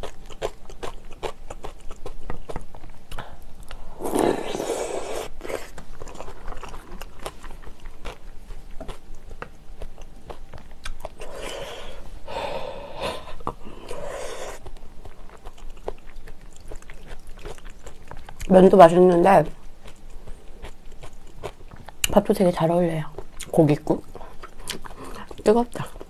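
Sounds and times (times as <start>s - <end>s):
chewing and mouth sounds: 0.0s - 12.1s, 12.9s - 26.0s.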